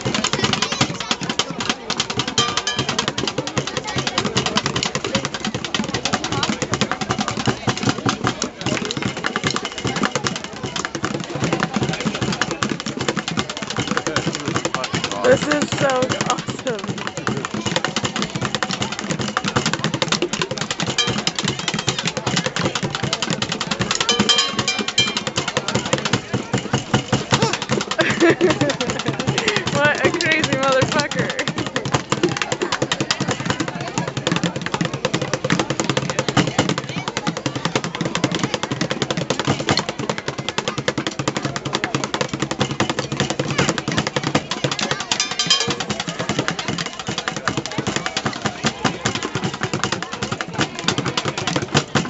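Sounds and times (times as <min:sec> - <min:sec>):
drumming on plastic buckets: 0:00.0 - 0:52.0.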